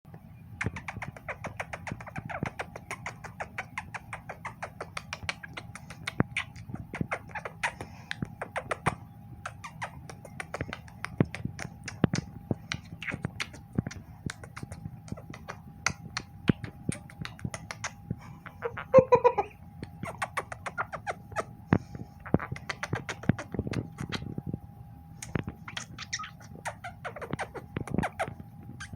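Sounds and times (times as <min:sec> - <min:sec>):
parrot kissing smacks: 0:00.6 - 0:18.8, 0:19.8 - 0:21.5, 0:22.2 - 0:24.3, 0:25.2 - 0:28.9
parrot beak clicks: 0:00.6 - 0:18.9, 0:19.8 - 0:21.5, 0:22.2 - 0:24.3, 0:25.2 - 0:28.9.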